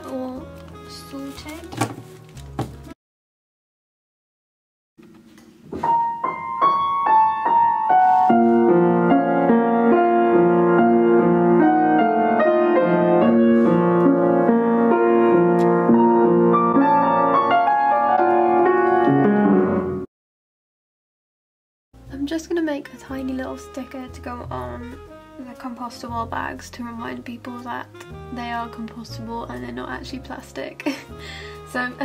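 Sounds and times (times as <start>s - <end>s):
jazz piano playing: 0.0s - 3.0s, 5.0s - 20.1s, 22.0s - 32.0s.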